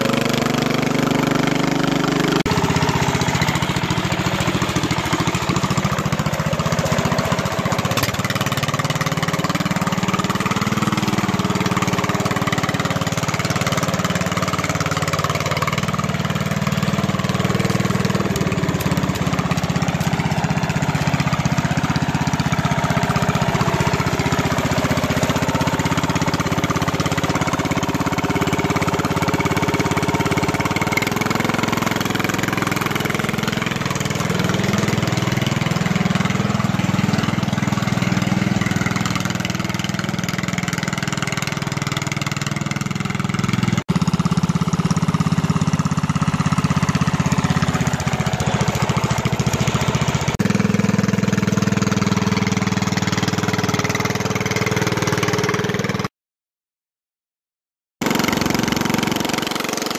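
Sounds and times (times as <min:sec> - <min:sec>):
ride-on mower engine running: 0:00.0 - 0:56.1, 0:58.0 - 0:59.9.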